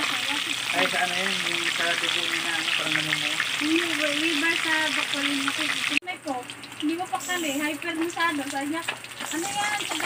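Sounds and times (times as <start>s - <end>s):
fish deep-frying in oil: 0.0s - 10.0s.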